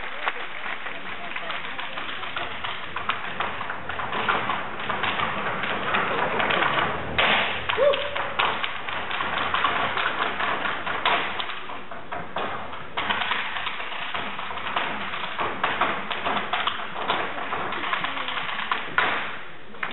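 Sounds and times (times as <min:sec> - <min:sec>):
hard-shoe taps on wooden stage: 0:01.0 - 0:19.9.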